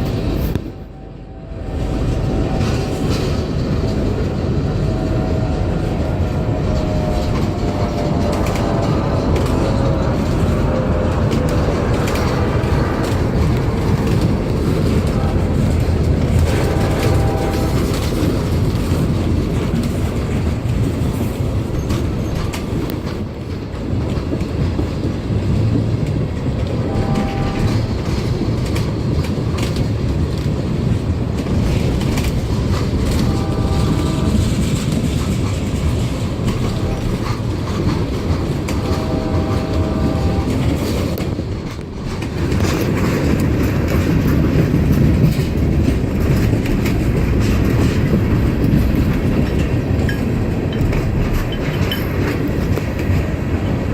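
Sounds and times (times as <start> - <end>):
diesel locomotive engine rumble: 0.0 - 53.9
wheels clacking over rail joints: 1.6 - 53.9.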